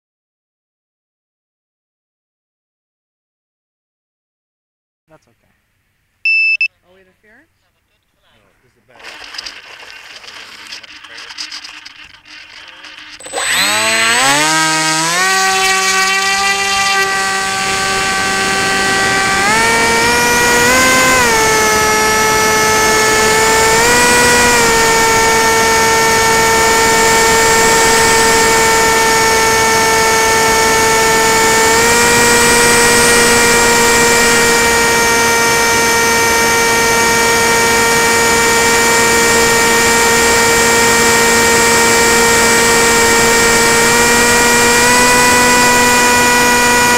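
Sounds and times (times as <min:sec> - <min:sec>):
electric motor and propeller whine: 0:09.0 - 0:46.9.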